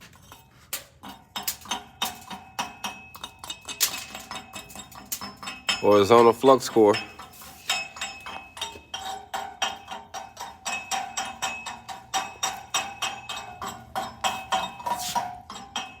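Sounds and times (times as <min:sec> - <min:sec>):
metal plate ringing: 0:01.0 - 0:16.0.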